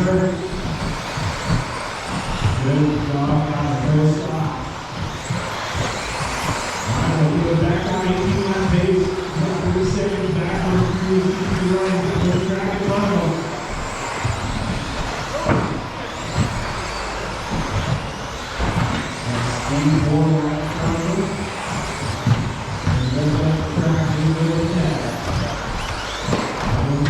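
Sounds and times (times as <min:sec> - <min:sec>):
rc car motors and tyres: 0:00.0 - 0:27.0.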